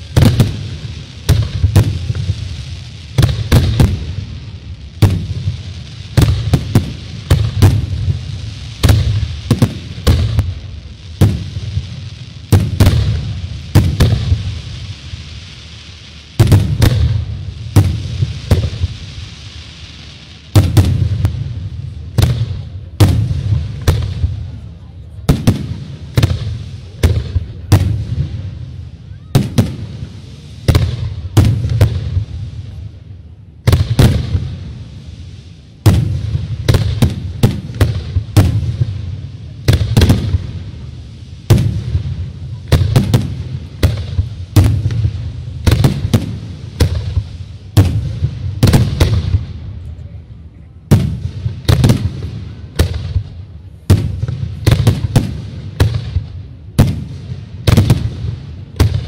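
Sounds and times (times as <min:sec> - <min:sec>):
constant low rumble: 0:00.0 - 0:59.0.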